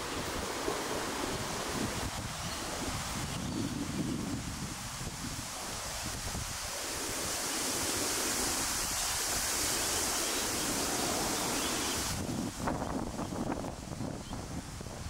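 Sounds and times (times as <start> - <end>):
steady outdoor hiss: 0.0 - 15.0
wind rumbling on microphone: 0.0 - 15.0.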